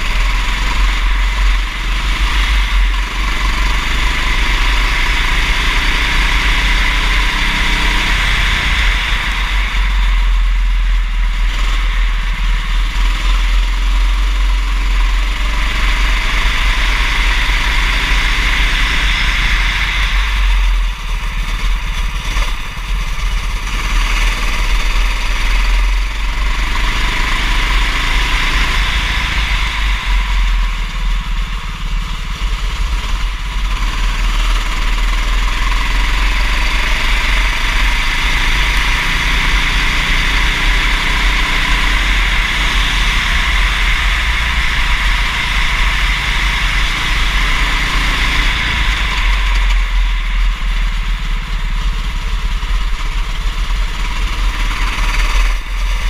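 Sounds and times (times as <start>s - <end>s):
kart engine revving: 0.0s - 56.0s
low heavy rumble: 0.0s - 56.0s.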